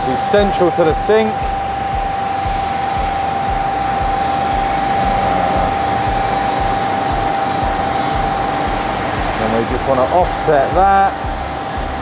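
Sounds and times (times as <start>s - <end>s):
whirring machine whine: 0.0s - 12.0s.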